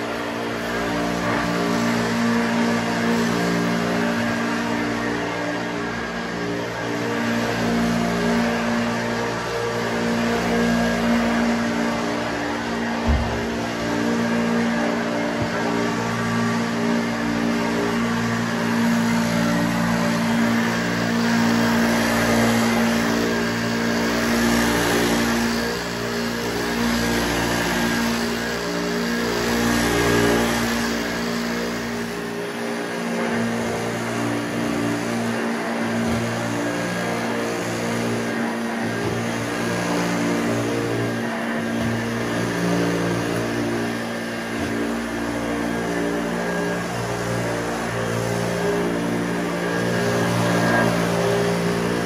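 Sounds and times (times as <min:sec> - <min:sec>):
vacuum cleaner running on carpet: 0:00.0 - 0:52.0.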